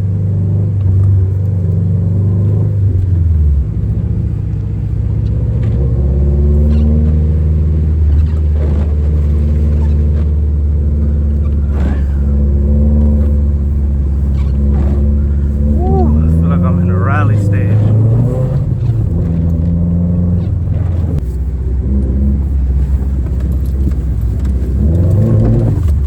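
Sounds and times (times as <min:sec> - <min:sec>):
car engine droning while driving: 0:00.0 - 0:26.0.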